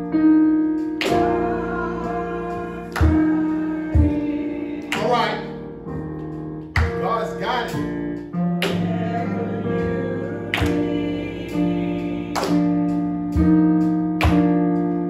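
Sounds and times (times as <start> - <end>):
sustained keyboard chords: 0.0 - 15.0.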